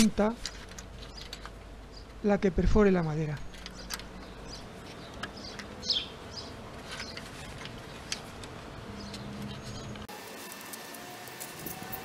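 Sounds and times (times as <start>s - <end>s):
small birds chirping: 0.4s - 10.1s.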